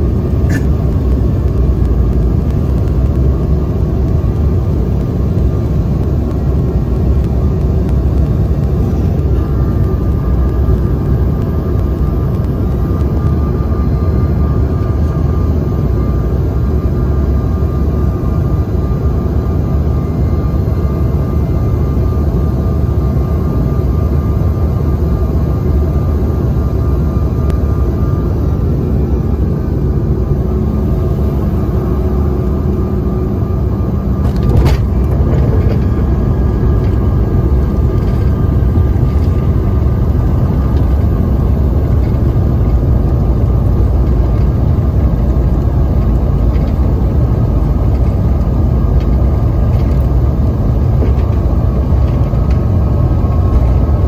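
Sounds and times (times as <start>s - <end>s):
airplane cabin rumble: 0.0s - 54.0s
thin steady whine: 0.0s - 54.0s.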